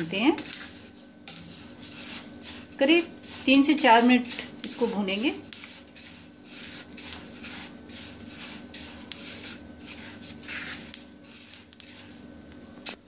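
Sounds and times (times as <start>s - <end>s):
low steady hum: 0.0s - 13.0s
spatula stirring seeds in pan: 0.0s - 13.0s.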